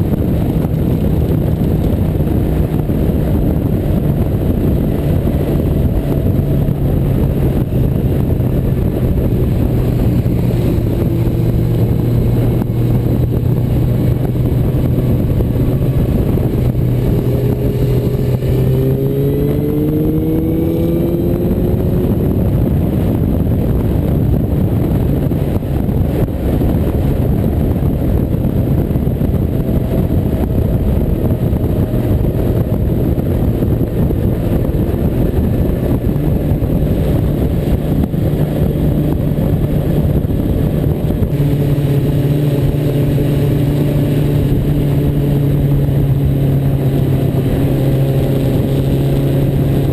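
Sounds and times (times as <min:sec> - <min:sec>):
motorcycle engine drone: 0:00.0 - 0:49.9
wind and road noise: 0:00.0 - 0:49.9.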